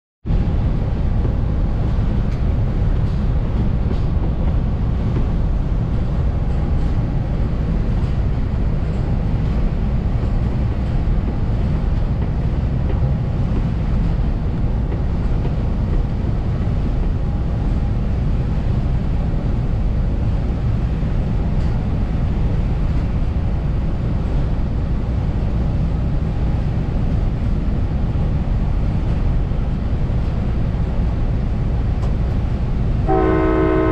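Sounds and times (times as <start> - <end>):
train wheels rolling on rails: 0.3 - 33.9.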